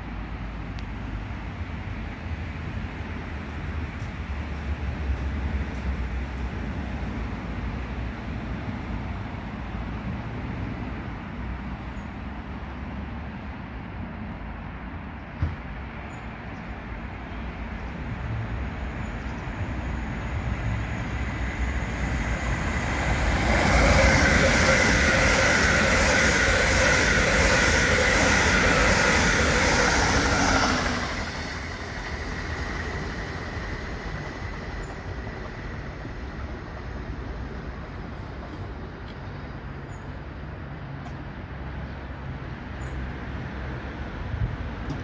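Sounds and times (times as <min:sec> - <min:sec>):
train passing at speed: 0:00.0 - 0:45.0.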